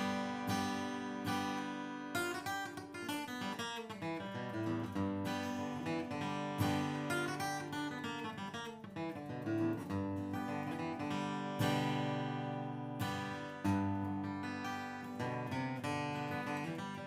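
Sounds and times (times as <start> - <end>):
acoustic guitar picking and strumming: 0.0 - 17.0.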